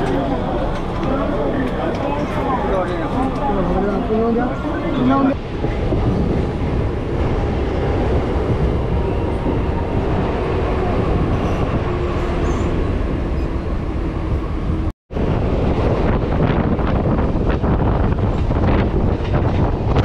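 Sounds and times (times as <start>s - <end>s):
train rumbling and rattling: 0.0s - 20.0s.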